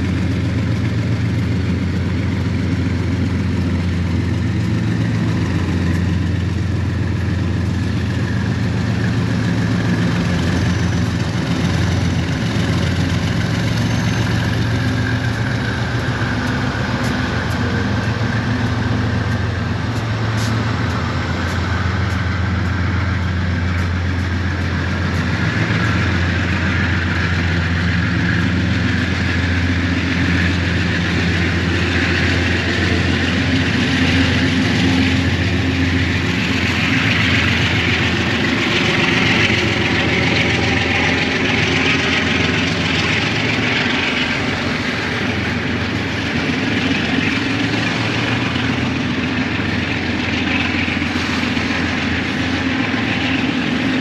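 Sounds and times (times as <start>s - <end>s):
diesel locomotive engine hum: 0.0s - 54.0s.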